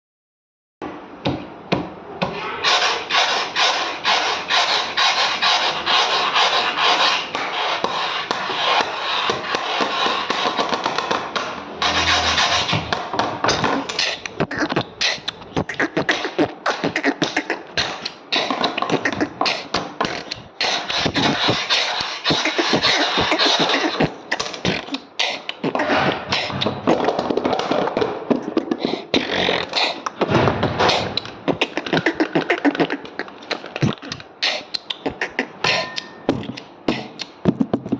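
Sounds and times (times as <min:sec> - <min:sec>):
beatboxing: 0:02.4 - 0:37.9.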